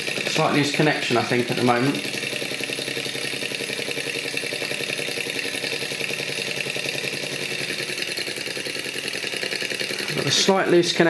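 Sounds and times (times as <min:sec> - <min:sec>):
stirling engine clattering: 0:00.0 - 0:11.0.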